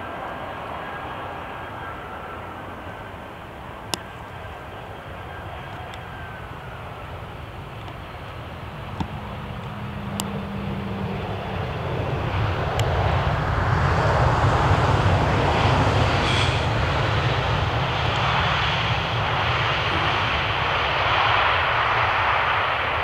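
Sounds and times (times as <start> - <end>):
jet engines reverse thrust: 0.0 - 23.0.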